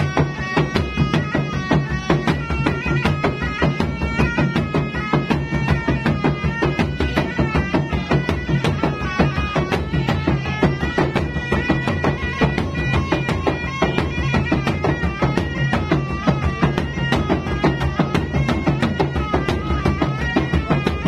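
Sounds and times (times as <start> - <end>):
reedy shawm melody: 0.0 - 21.0.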